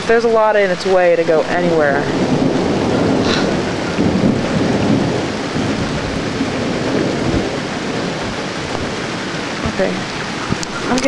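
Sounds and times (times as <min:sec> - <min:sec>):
low rumble of thunder: 0:00.0 - 0:11.0
rain falling: 0:00.0 - 0:11.0.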